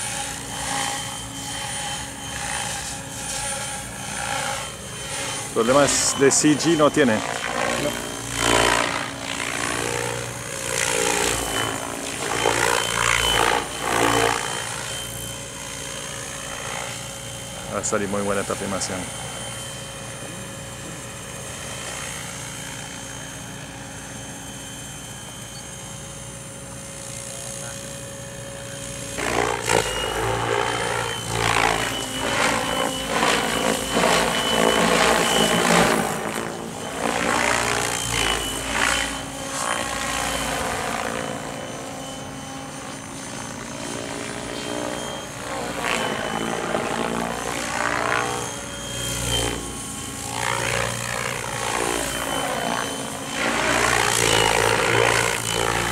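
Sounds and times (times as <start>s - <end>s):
model helicopter rotor whirring: 0.0s - 55.9s.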